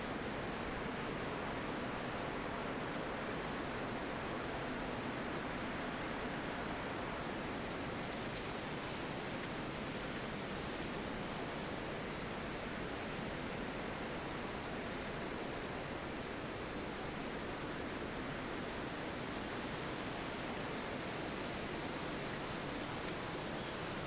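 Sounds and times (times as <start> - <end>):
wind through trees: 0.0 - 24.0.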